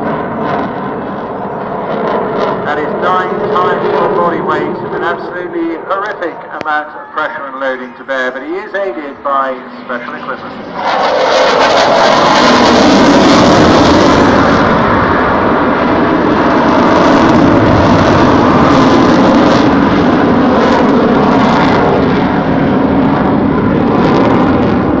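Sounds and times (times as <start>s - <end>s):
fast jet engine roar: 0.0s - 25.0s.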